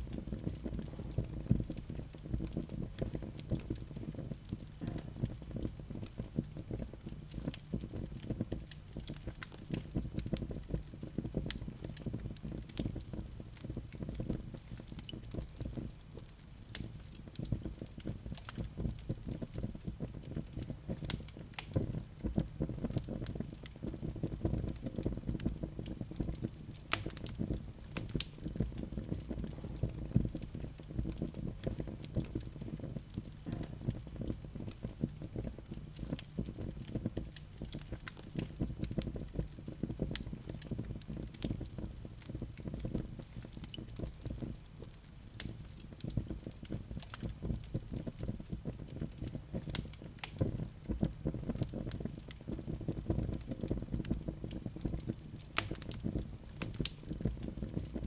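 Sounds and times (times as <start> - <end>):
wood fire burning: 0.0 - 58.0.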